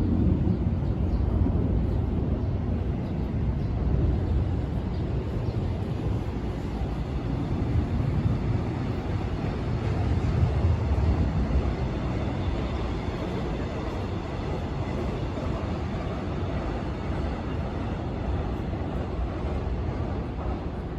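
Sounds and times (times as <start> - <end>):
rail vehicle rumbling on track: 0.0 - 20.9.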